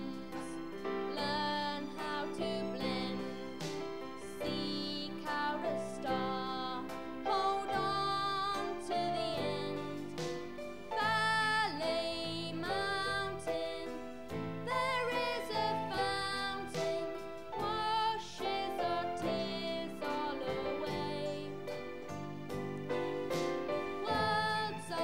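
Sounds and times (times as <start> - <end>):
person singing: 0.0 - 10.3, 10.9 - 21.8, 23.7 - 25.0
instrumental accompaniment: 0.0 - 25.0.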